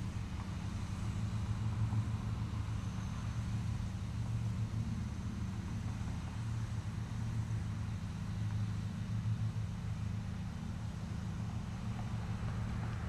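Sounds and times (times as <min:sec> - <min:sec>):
riding lawn mower engine: 0:00.0 - 0:13.0.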